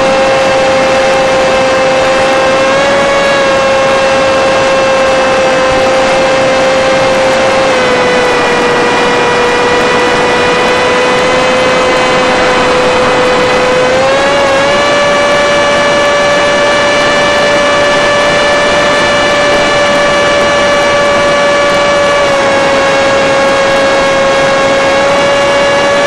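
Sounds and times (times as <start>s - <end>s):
rc plane motor whining: 0.0s - 26.0s
rush of air noise: 0.0s - 26.0s.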